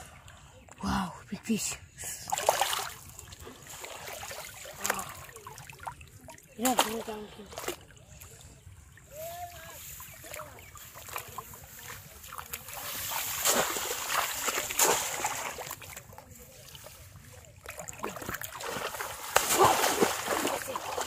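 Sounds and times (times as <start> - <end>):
feet wading through water: 2.3 - 21.0.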